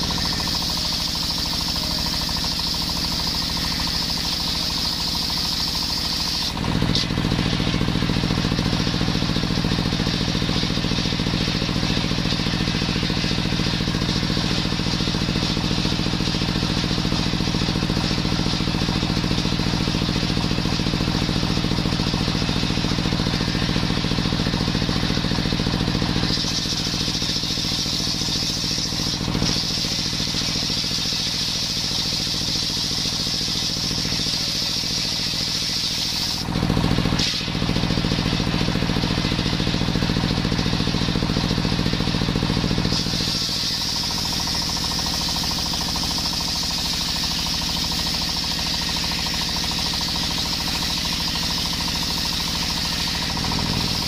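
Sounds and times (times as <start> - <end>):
saw blade cutting hiss: 0.0 - 36.5, 37.1 - 38.4, 42.5 - 54.0
stationary engine running: 0.0 - 54.0.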